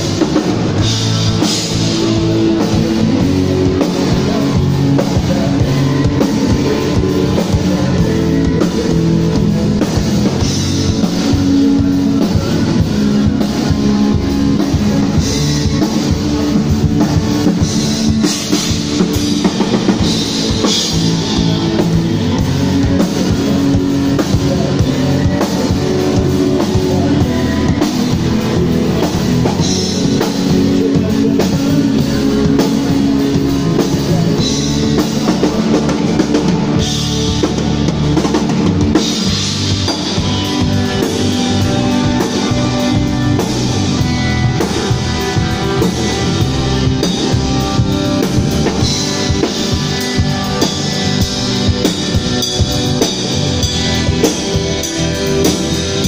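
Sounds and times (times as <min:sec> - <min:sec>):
electric guitar: 0:00.0 - 0:56.0
rock band playing live: 0:00.0 - 0:56.0
bass drum: 0:00.7 - 0:56.0.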